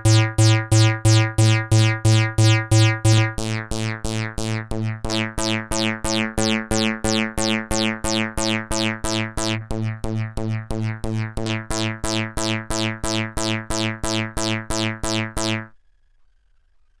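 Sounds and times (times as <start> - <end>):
repeating low synth bass note: 0.0 - 15.7.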